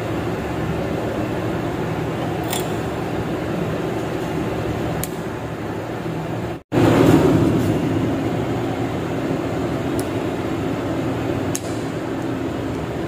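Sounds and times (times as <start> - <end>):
workshop mechanical hum: 0.0 - 13.0.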